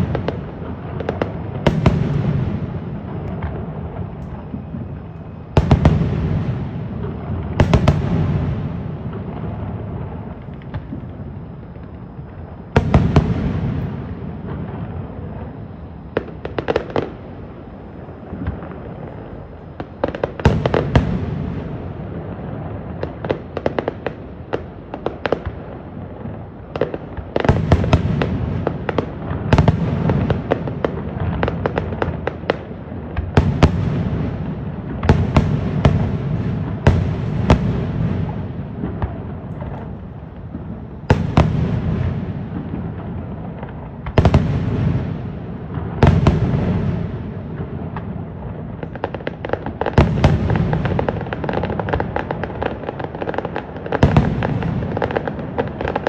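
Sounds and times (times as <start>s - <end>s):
continuous rumble: 0.0s - 56.0s
fireworks crackling: 0.0s - 56.0s.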